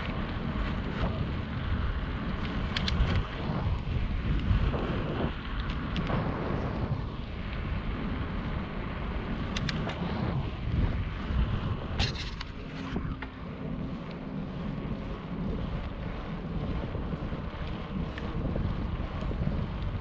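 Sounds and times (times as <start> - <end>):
bike clicks and rattles: 0.0 - 6.3, 7.0 - 20.0
tyres rumbling on pavement: 0.0 - 20.0
wind rushing over microphone: 0.0 - 20.0.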